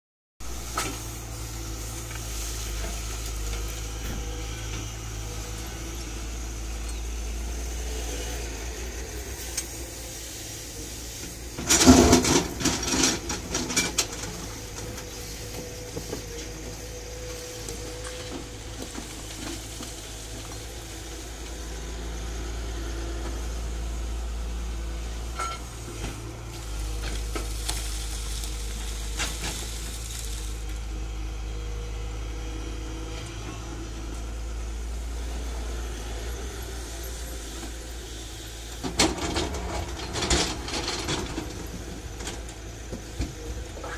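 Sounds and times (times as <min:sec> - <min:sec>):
excavator diesel engine running: 0:00.4 - 0:43.9.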